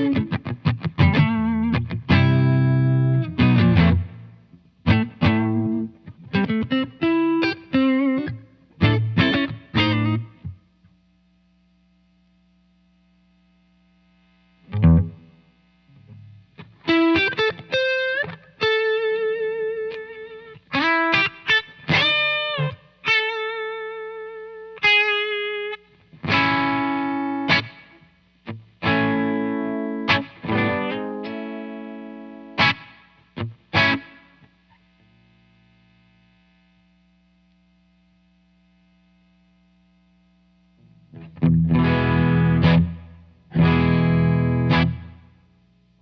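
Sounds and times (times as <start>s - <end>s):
overdriven electric guitar: 0.0s - 11.0s, 14.4s - 46.0s
amp hum: 0.0s - 46.0s.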